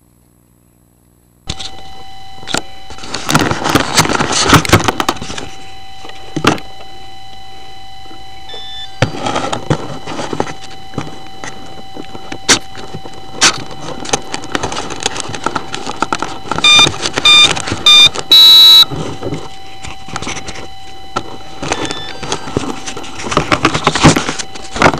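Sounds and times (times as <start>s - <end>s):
thin electronic tone: 1.5s - 24.9s
handling noise on foam model: 2.4s - 7.4s, 8.1s - 24.9s.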